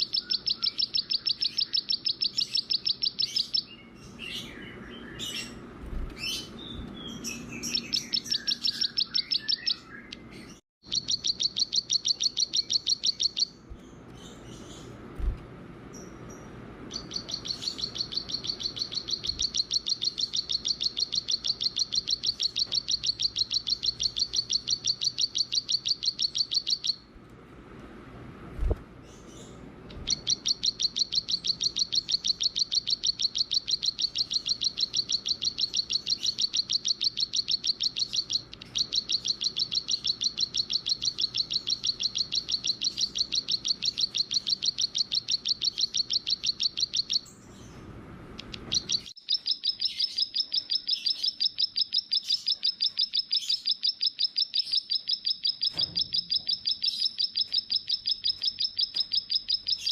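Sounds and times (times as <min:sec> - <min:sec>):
songbird trilling: 0:00.0 - 0:05.6, 0:06.2 - 0:15.0, 0:16.0 - 0:27.0, 0:29.1 - 0:47.8, 0:48.4 - 0:59.9.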